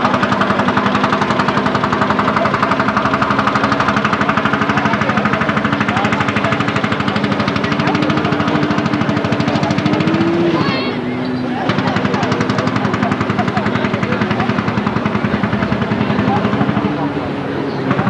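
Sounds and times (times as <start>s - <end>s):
engine idling with hammering beat: 0.0s - 18.0s.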